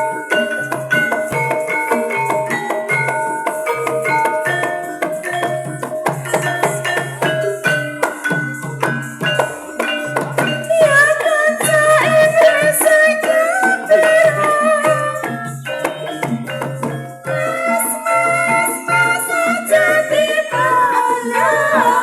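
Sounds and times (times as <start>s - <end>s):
gamelan music: 0.0s - 22.0s
struck keyed instruments: 0.0s - 22.0s
wavering held melodic line: 0.0s - 22.0s.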